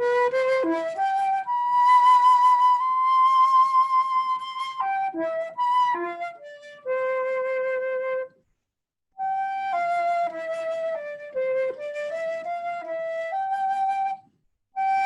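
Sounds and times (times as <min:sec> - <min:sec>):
slow solo flute melody: 0:00.0 - 0:08.4, 0:09.2 - 0:15.0.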